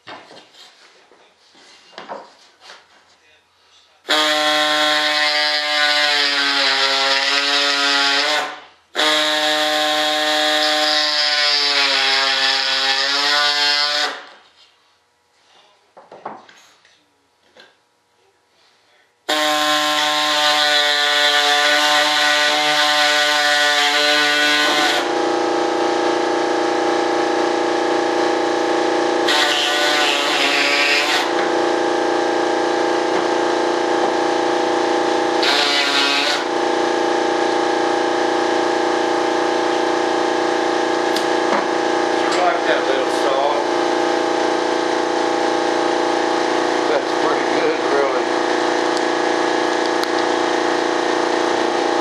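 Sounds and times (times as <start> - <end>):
power tool motor running: 4.1 - 14.4, 19.3 - 52.0.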